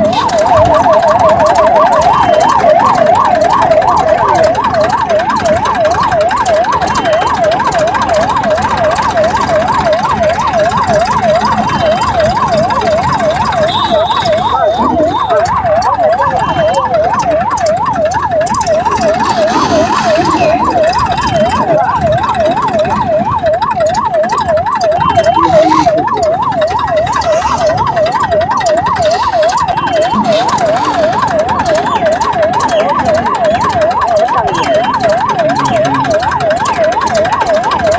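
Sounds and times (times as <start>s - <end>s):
electronic yelp siren: 0.0s - 37.9s
steady background noise: 0.0s - 37.9s.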